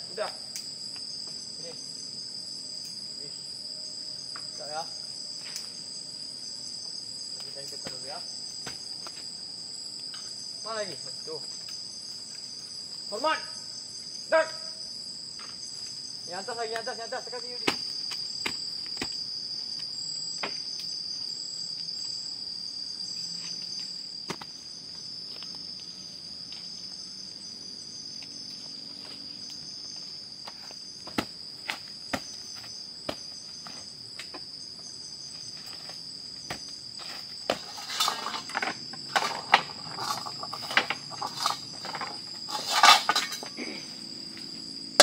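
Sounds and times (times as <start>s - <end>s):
crickets chirring: 0.0s - 45.0s.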